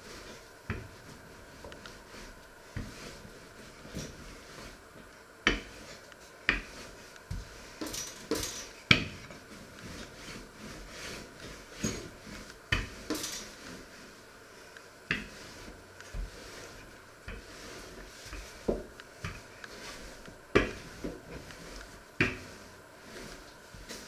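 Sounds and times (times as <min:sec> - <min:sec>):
rolling pin rubbing dough: 0:00.0 - 0:24.0.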